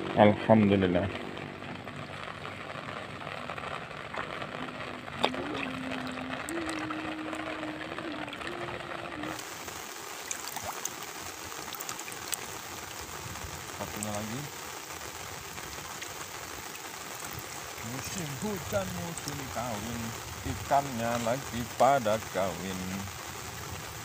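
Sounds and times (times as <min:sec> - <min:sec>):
heavy rain on pond: 0:00.0 - 0:24.0.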